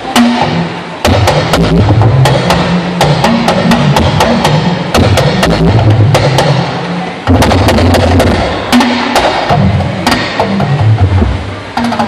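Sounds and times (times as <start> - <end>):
talking drum beaten with stick: 0.0 - 12.0.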